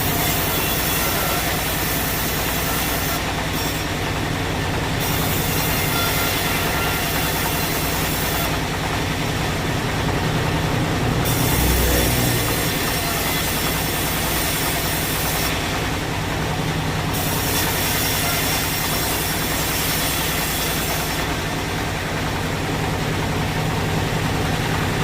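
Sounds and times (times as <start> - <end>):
sawmill machinery droning: 0.0 - 25.0.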